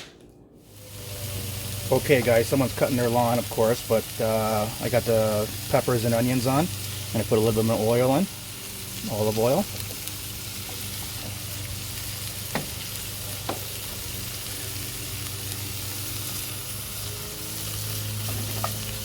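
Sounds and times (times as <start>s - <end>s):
lawnmower humming: 0.6s - 19.0s
vegetables sizzling in oil: 0.6s - 19.0s.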